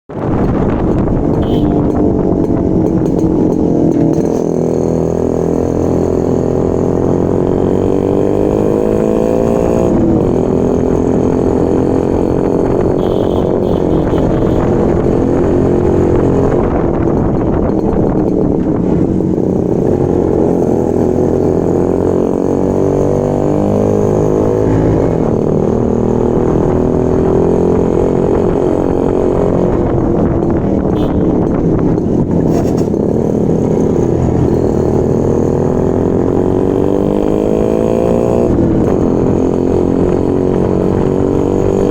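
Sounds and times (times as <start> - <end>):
two-stroke motorcycle engine running: 0.1 - 41.9.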